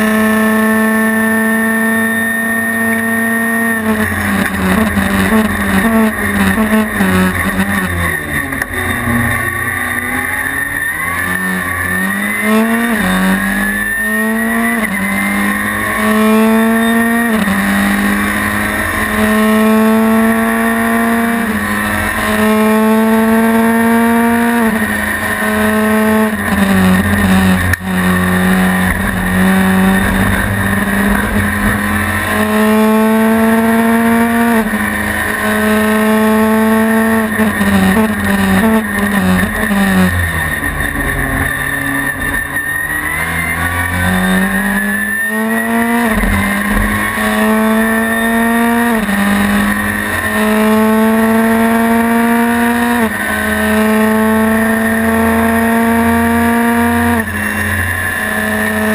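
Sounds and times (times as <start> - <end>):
race car engine accelerating: 0.0 - 58.9.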